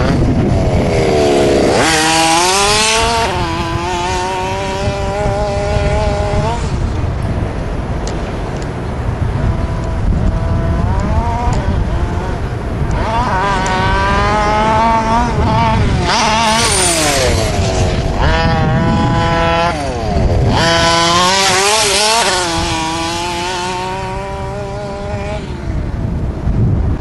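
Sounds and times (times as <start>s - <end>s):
small engine revving: 0.0s - 26.5s.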